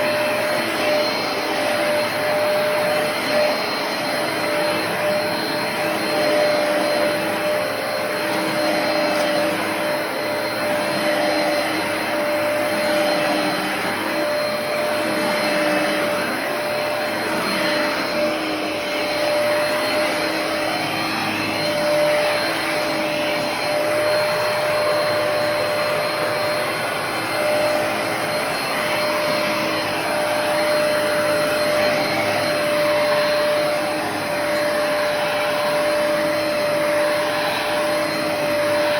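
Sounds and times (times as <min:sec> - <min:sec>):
carpet cleaner motor whine: 0:00.0 - 0:38.9.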